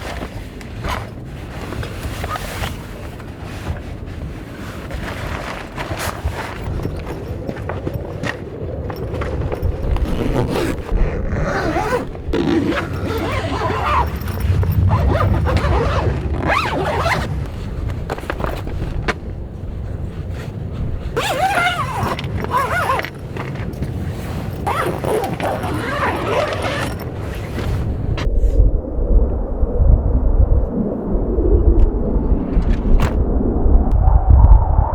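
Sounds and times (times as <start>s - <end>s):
handling clicks and rustles: 0.0s - 28.3s
howling wind gusts: 0.0s - 34.9s
strong wind buffeting microphone: 0.0s - 34.9s.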